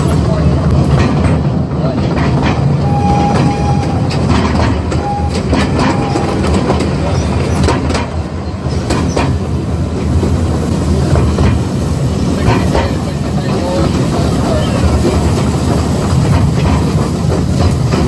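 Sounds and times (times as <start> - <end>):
train rumble: 0.0 - 18.0
wheels clacking over rail joints: 0.0 - 18.0.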